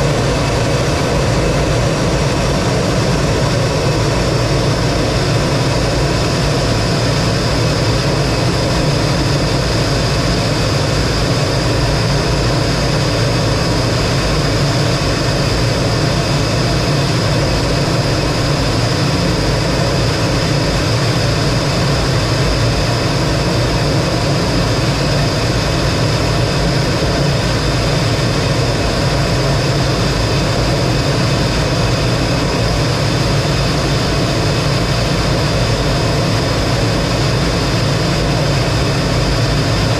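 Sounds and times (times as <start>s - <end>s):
jet engine running in cockpit: 0.0s - 39.9s
steady high whine: 0.0s - 39.9s.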